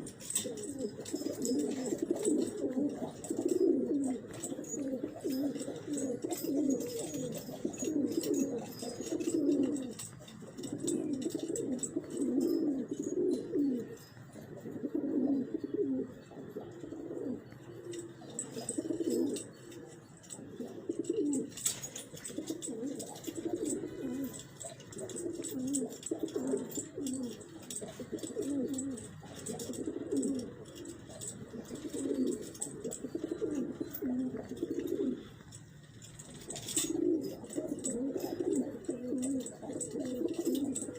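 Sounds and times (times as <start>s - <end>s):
pigeons cooing: 0.0s - 40.9s.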